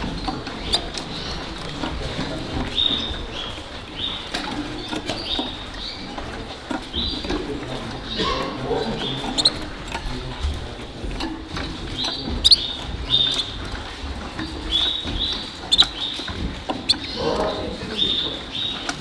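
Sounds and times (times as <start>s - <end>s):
canaries chirping: 0.0s - 19.0s
low hall murmur: 0.0s - 19.0s.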